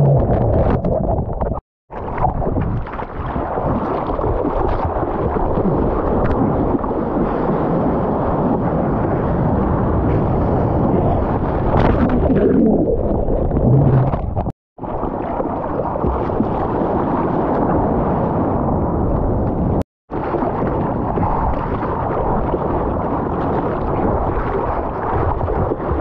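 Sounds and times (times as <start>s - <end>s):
seawater rushing and splashing: 1.9s - 19.2s, 20.1s - 26.0s
wind buffeting microphone: 2.3s - 26.0s.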